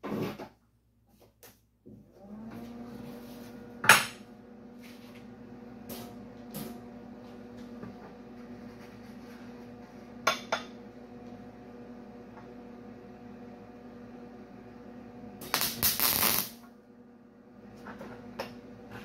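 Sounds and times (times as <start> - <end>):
welder electrical hum: 1.4 - 19.0.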